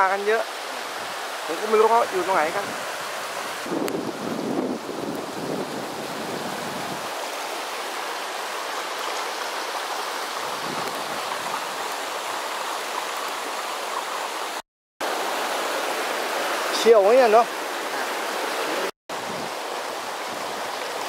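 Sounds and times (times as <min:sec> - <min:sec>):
water rushing over stones: 0:00.0 - 0:21.0.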